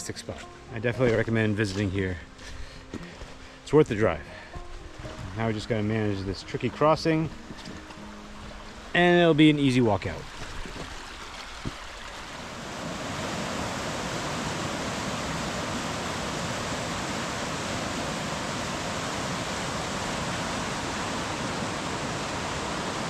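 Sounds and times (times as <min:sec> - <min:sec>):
brook water rushing: 0:00.0 - 0:23.0.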